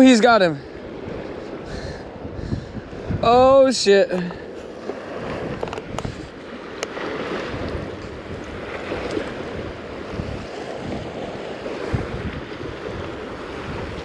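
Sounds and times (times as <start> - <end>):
water washing against boat: 0.0 - 14.0
wind buffeting microphone: 0.0 - 14.0.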